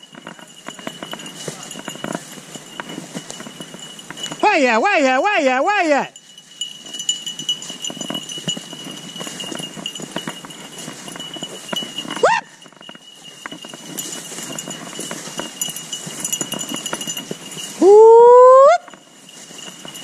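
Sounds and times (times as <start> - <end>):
footsteps through dry grass: 0.0 - 20.0.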